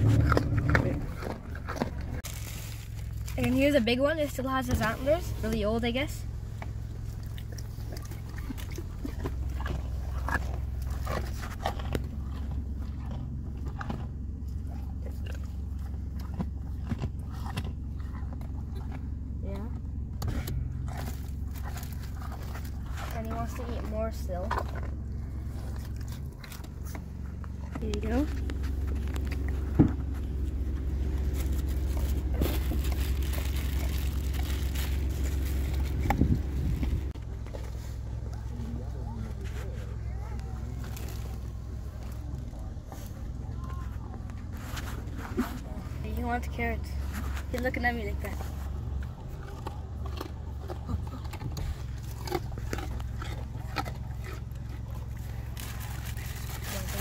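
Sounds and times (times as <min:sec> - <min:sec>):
elk crunching a carrot: 0:00.0 - 0:57.0
low car hum: 0:00.0 - 0:57.0.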